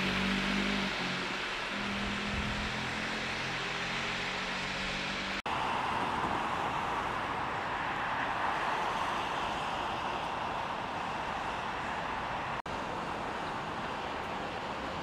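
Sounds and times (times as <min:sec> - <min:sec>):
floodwater rushing through channel: 0:00.0 - 0:15.0.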